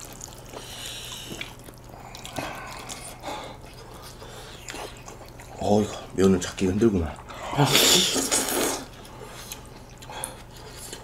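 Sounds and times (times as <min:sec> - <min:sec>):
wet chewing of noodles: 0:00.0 - 0:11.0.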